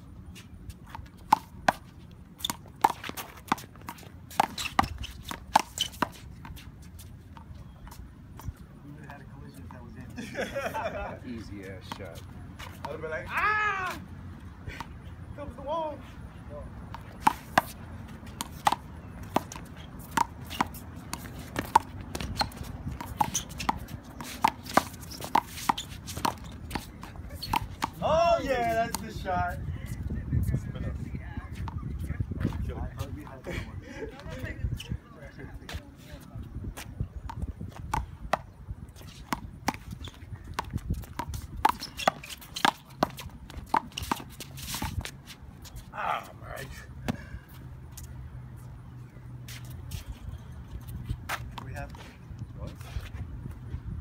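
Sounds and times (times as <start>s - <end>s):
sneakers shuffling on court: 0.0s - 54.0s.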